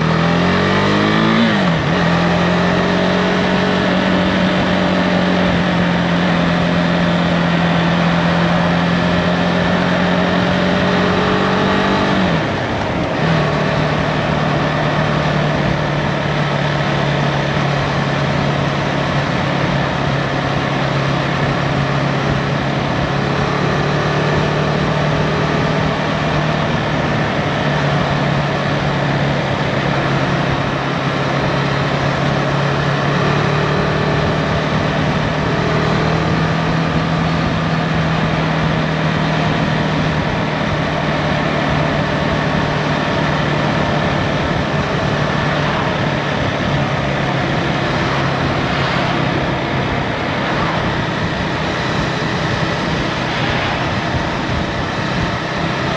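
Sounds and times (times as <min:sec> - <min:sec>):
motorcycle engine cruising: 0:00.0 - 0:55.9
wind and road noise: 0:00.0 - 0:55.9.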